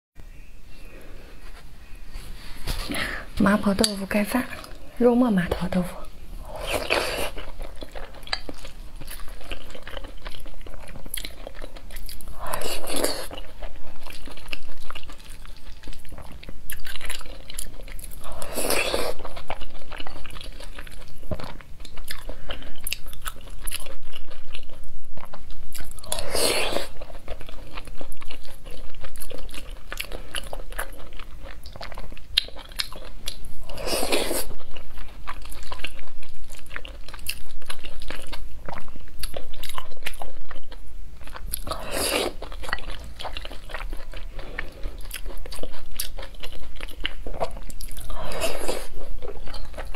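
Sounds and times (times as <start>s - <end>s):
wet chewing and mouth noises: 3.6s - 4.9s, 6.4s - 49.9s.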